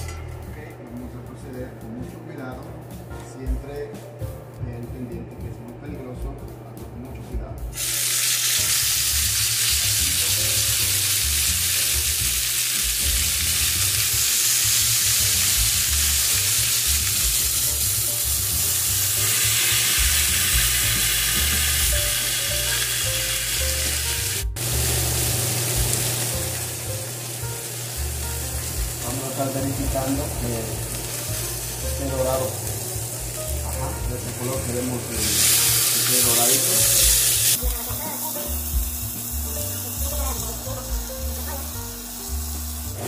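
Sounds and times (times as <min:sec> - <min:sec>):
chicken sizzling in a skillet: 0:07.7 - 0:43.0.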